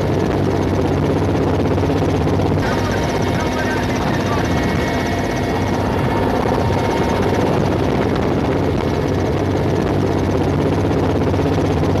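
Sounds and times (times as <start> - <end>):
helicopter rotor chopping: 0.0 - 12.0.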